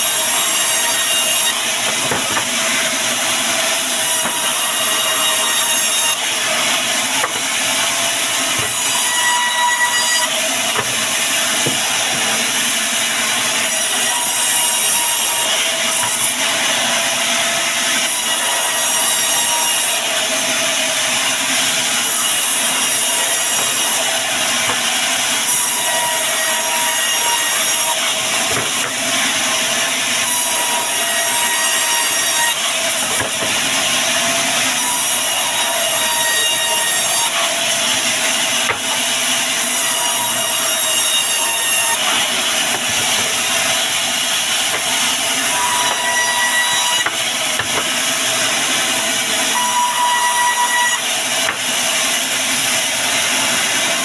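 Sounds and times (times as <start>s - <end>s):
band sawmill cutting wood: 0.0s - 54.0s.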